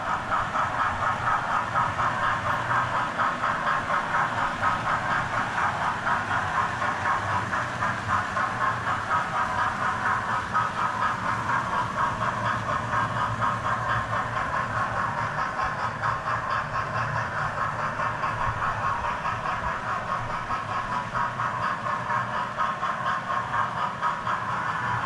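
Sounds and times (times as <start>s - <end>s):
train wheels clicking on track: 0.0s - 25.0s.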